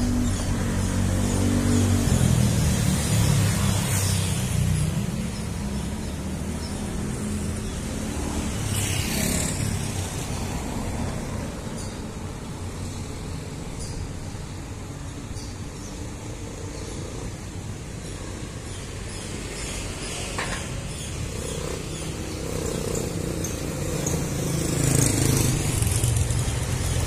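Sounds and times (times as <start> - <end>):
steady traffic background: 0.0 - 27.0.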